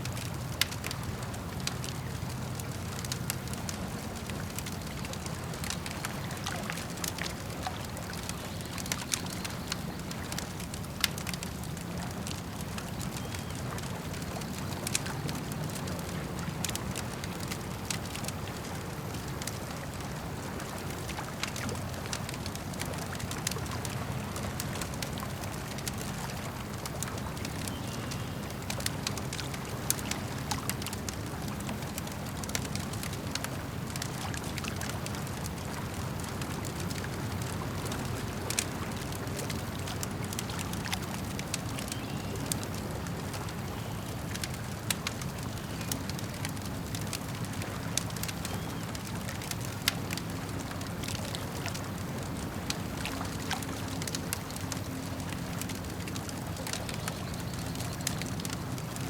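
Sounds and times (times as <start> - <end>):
campfire crackling: 0.0 - 59.0
lake water washing: 0.0 - 59.0.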